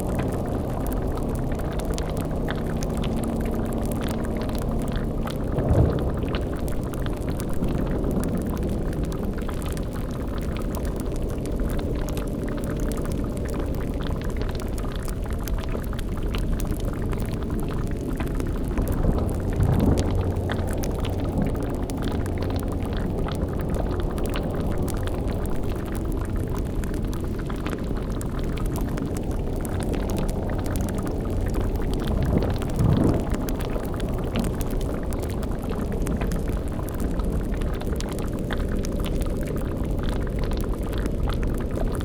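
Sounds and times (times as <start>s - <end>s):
cauldron bubbling: 0.0s - 42.0s
low rumbling drone: 0.0s - 42.0s.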